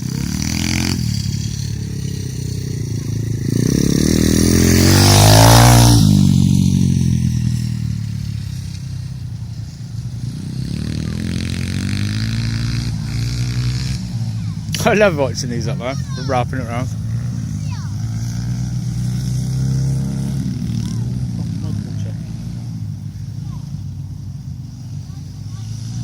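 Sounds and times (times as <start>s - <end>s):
distant pit bike engines revving: 0.0s - 26.0s
pit bike engine passing by: 0.0s - 26.0s.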